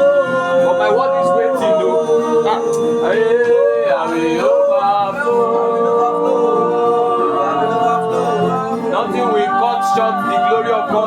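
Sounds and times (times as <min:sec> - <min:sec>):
accompaniment chords: 0:00.0 - 0:11.0
man singing worship song: 0:00.0 - 0:11.0.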